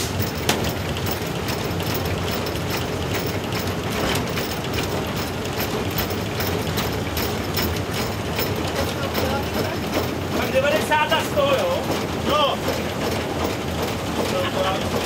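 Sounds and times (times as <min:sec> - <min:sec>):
cab fittings rattling and knocking: 0:00.0 - 0:15.0
steam locomotive running rumble: 0:00.0 - 0:15.0.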